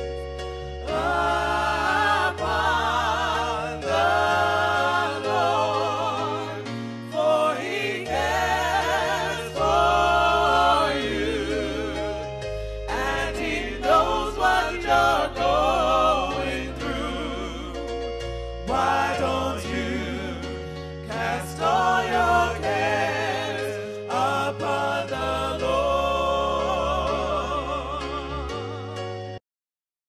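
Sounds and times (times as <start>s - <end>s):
gospel singing with vibrato: 0.0s - 29.4s.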